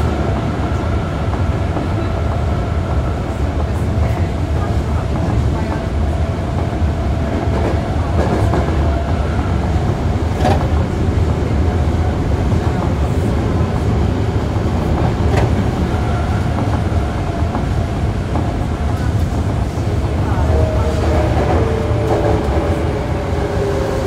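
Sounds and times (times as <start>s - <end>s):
rumble of train wheels: 0.0s - 24.0s.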